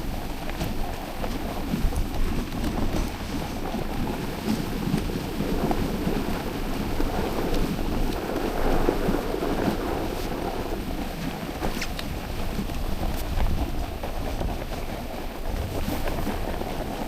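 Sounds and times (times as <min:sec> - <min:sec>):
sled running over snow: 0:00.0 - 0:17.0
small irregular ticks and knocks: 0:00.0 - 0:17.0
wind rumble on microphone: 0:00.0 - 0:17.0.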